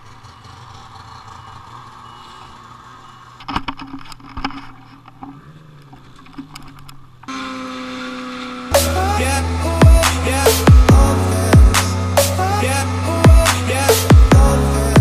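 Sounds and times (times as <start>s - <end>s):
snowmobile engine running: 0.0s - 3.7s, 4.4s - 15.0s.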